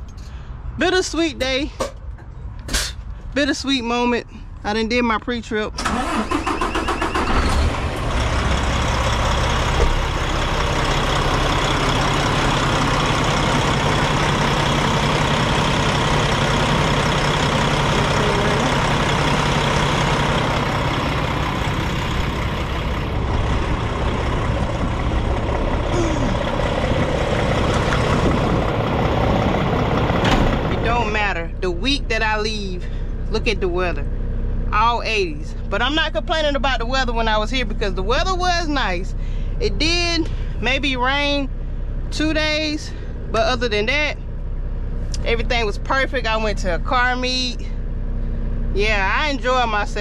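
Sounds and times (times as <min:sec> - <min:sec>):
diesel engine idling: 0:05.8 - 0:50.0.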